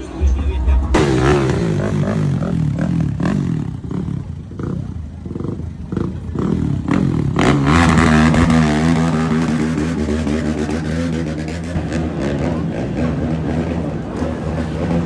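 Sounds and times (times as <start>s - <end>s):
car engine revving hard: 1.0s - 4.9s, 6.0s - 15.0s.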